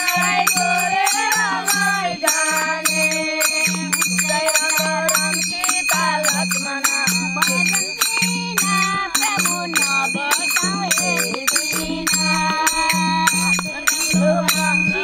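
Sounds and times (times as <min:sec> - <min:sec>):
hand cymbals ringing: 0:00.0 - 0:15.0
women singing together: 0:00.0 - 0:15.0.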